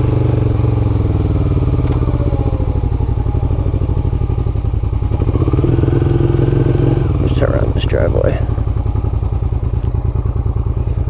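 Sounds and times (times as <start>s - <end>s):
motorcycle engine slowing and idling: 0.0s - 11.0s.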